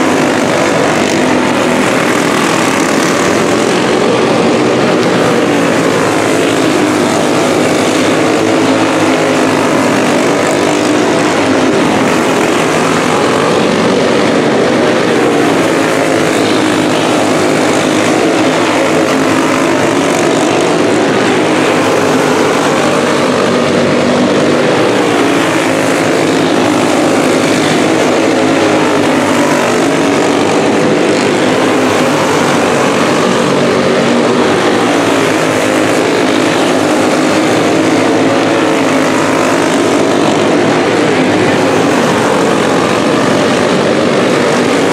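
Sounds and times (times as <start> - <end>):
kart engines high-revving drone: 0.0 - 44.9.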